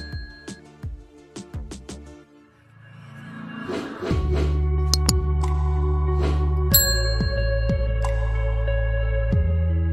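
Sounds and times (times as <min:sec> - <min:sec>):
instrumental background music: 0:00.0 - 0:09.9.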